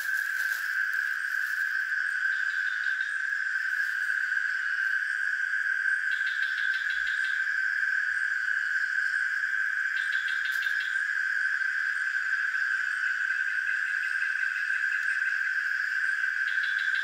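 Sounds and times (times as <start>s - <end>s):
fast pulsed insect chirping: 0.0s - 17.0s
insect chorus drone: 0.0s - 17.0s.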